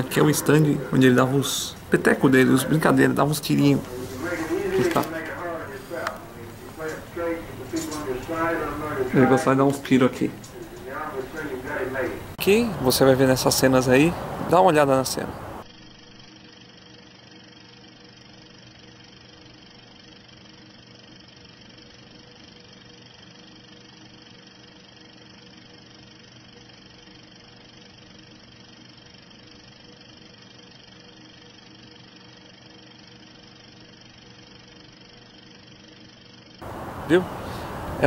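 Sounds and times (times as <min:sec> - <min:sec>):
faint hum tones: 0:00.0 - 0:38.0
film soundtrack hiss: 0:00.0 - 0:38.0.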